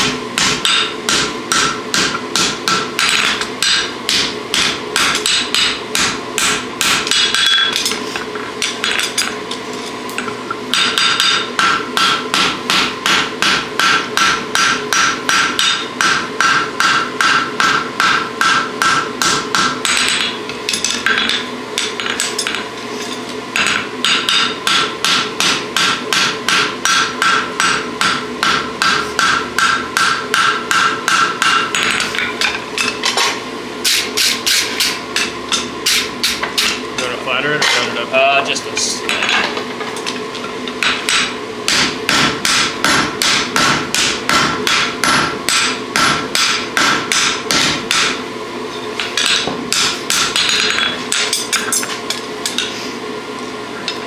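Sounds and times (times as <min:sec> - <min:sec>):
hammer striking hot metal on anvil: 0:00.0 - 0:08.0, 0:10.2 - 0:22.7, 0:23.6 - 0:36.8, 0:39.1 - 0:48.2, 0:49.0 - 0:52.7.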